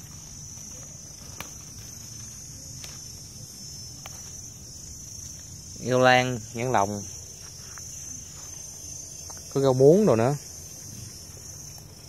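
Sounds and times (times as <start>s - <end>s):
hand picking leaves: 0.0s - 9.7s
insects shrilling: 0.0s - 12.0s.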